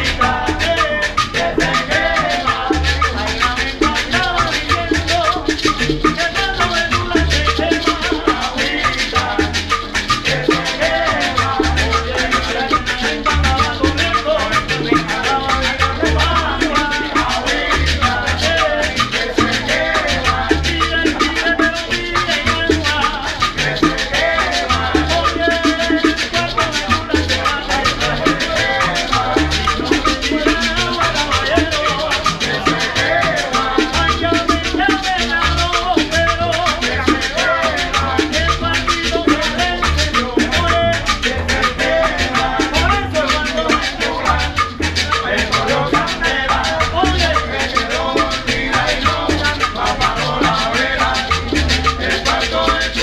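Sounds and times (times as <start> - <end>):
busy percussion: 0.0 - 53.0
pulsing bass beat: 0.0 - 53.0
salsa music: 0.0 - 53.0.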